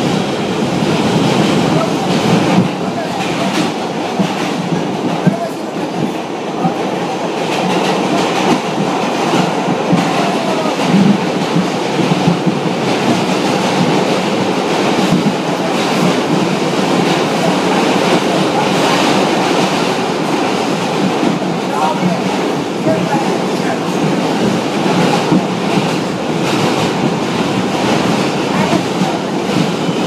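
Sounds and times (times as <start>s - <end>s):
subway wheels rumbling on rail: 0.0s - 30.0s.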